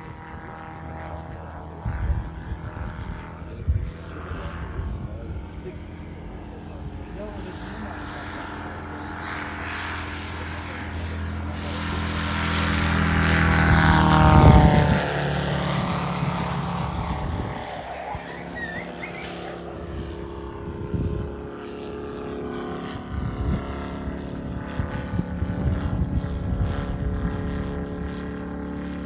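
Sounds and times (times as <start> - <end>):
model plane engine flying past: 0.0 - 29.0.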